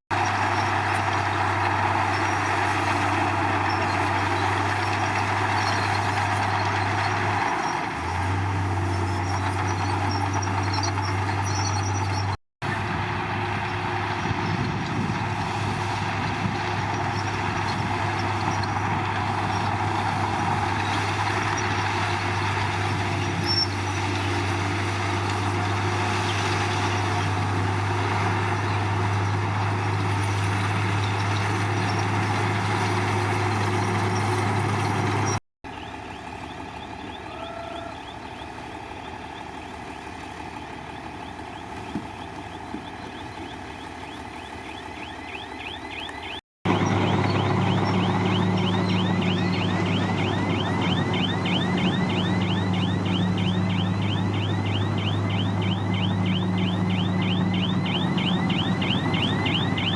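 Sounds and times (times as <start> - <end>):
steel tracks squealing: 0.1 - 12.4, 15.9 - 59.9
bulldozer diesel engine: 0.1 - 59.9.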